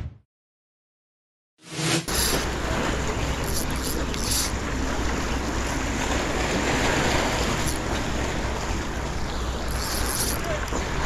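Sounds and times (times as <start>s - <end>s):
sea washing against shore: 2.1s - 11.0s.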